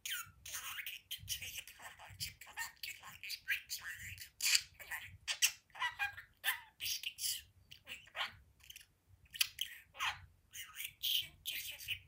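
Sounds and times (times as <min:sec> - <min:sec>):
budgerigar chattering: 0:00.0 - 0:12.0.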